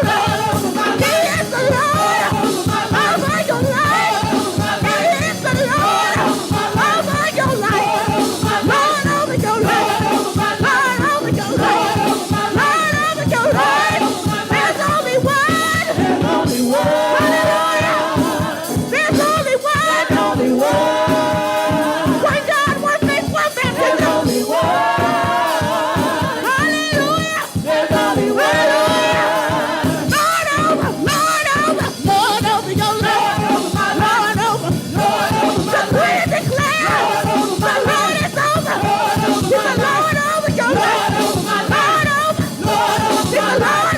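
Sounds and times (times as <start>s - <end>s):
choir singing with live band: 0.0s - 43.9s.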